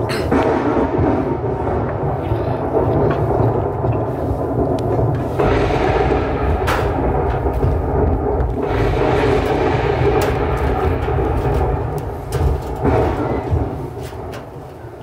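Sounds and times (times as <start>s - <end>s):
deep rumbling thunder: 0.0s - 15.0s.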